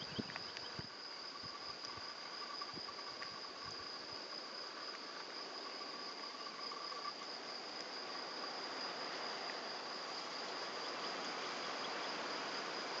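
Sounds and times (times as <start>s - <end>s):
high insect trill: 0.0s - 13.0s
lower insect trill: 0.0s - 13.0s
outdoor hiss: 0.0s - 13.0s.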